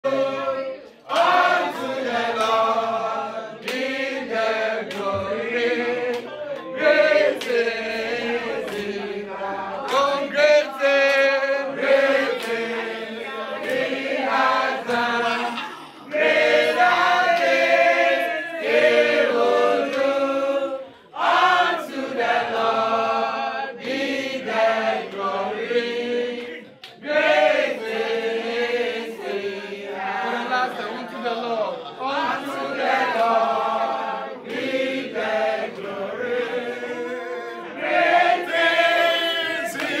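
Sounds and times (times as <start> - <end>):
group singing a worship song: 0.0 - 40.0.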